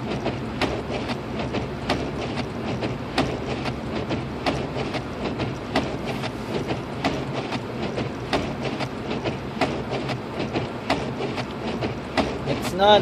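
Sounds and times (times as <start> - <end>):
road rumble in car: 0.0 - 13.0.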